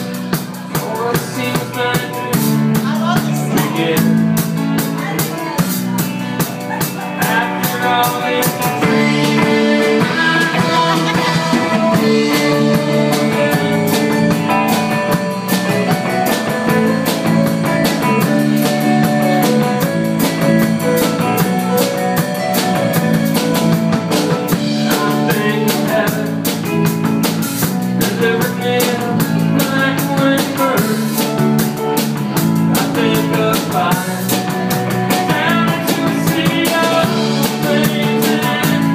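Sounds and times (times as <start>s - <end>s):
live rock band playing: 0.0s - 38.9s
steady drumbeat: 0.0s - 38.9s.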